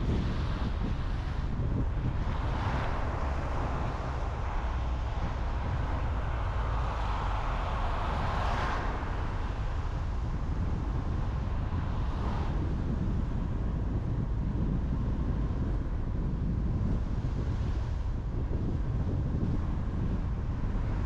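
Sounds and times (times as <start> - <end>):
car driving on road: 0.0 - 21.0
tyre and wind noise: 0.0 - 21.0.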